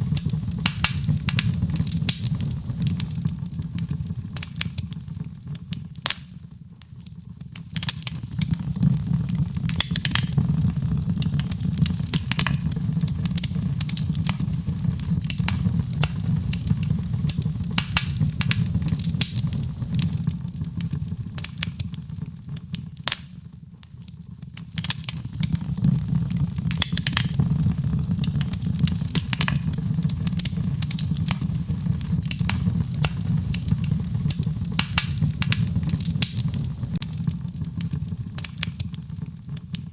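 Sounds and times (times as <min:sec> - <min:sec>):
fire low rumble: 0:00.0 - 0:39.9
wood fire crackling: 0:00.0 - 0:39.9.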